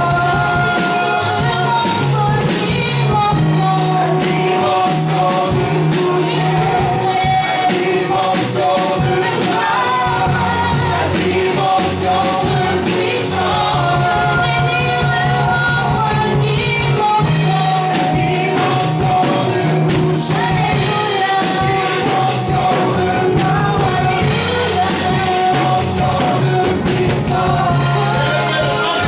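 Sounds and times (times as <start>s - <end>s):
backing singers: 0.0s - 29.0s
electric bass: 0.0s - 29.0s
keyboard: 0.0s - 29.0s
lead singer: 0.0s - 29.0s.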